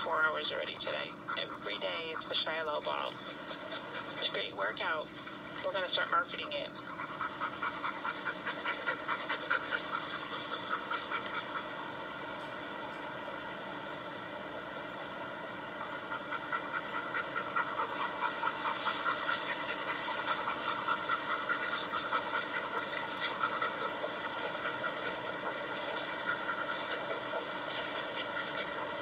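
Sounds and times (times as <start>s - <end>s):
dog panting: 0.0s - 13.4s, 15.6s - 29.0s
steady hum: 0.0s - 29.0s.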